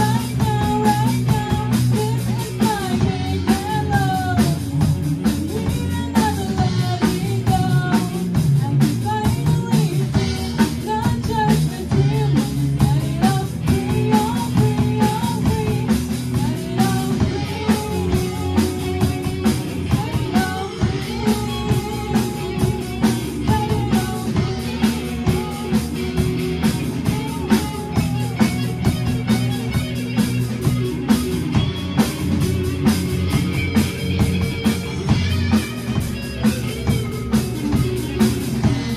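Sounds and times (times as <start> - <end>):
girl singing lead: 0.0 - 38.9
rock band playing: 0.0 - 38.9.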